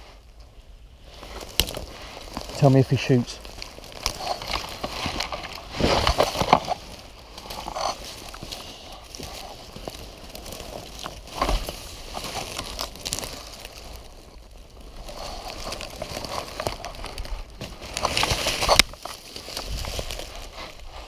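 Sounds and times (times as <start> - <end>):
dry leaves and twigs crackling: 0.0 - 21.0.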